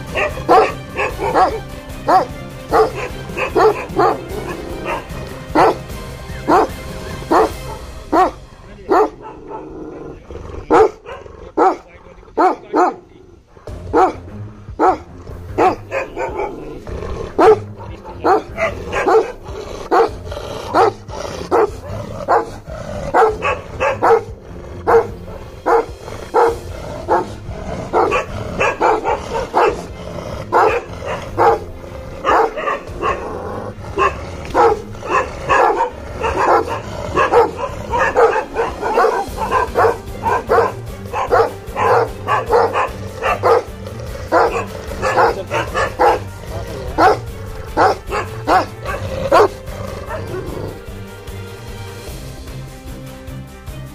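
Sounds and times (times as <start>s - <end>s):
dog barking: 0.0s - 5.8s, 6.4s - 9.9s, 10.6s - 13.2s, 13.9s - 50.7s.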